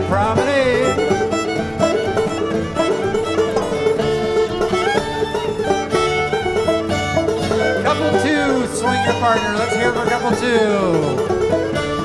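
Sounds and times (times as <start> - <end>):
fiddle: 0.0 - 12.0
plucked strings: 0.0 - 12.0
string band playing dance tune: 0.0 - 12.0.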